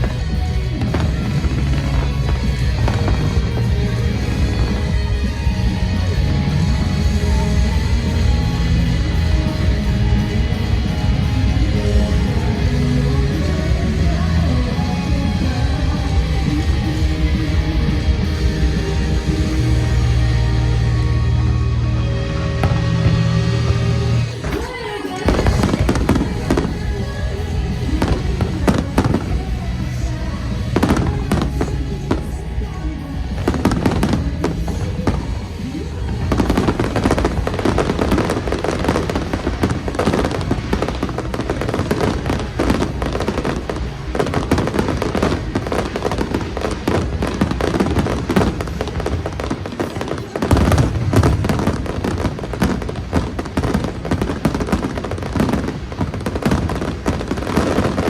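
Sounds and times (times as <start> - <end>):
fireworks bursting and crackling: 0.0 - 58.0
music over loudspeakers: 0.0 - 58.0.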